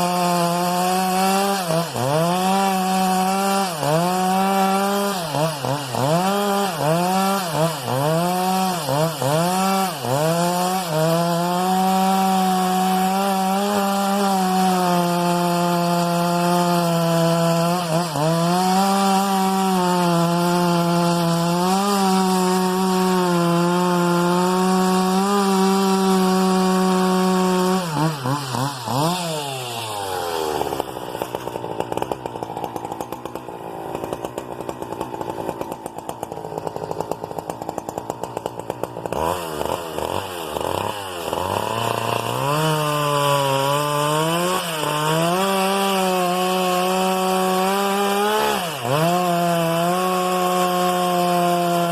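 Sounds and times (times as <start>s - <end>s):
chainsaw cutting wood: 0.0s - 51.9s
chainsaw idling: 0.0s - 51.9s.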